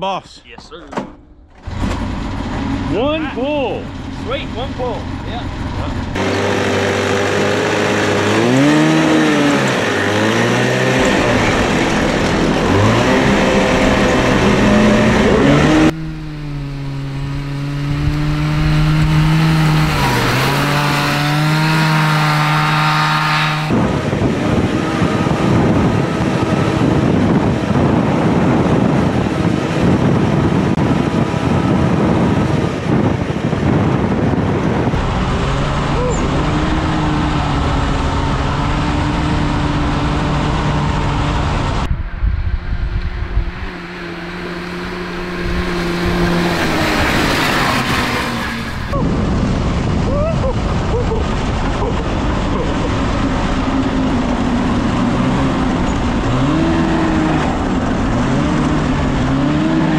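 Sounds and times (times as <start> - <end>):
two-stroke engine at high revs: 1.6 - 41.9, 42.6 - 49.0, 50.7 - 59.9
wind noise: 7.1 - 59.9.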